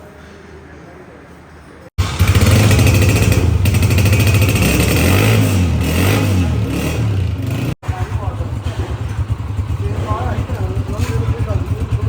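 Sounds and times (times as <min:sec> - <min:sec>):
motorcycle engine revving: 0:02.0 - 0:12.0.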